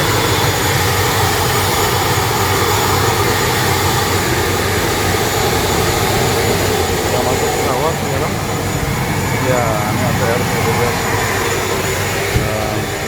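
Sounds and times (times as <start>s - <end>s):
high engine whine: 0.0s - 13.0s
turboprop engine drone: 0.0s - 13.0s.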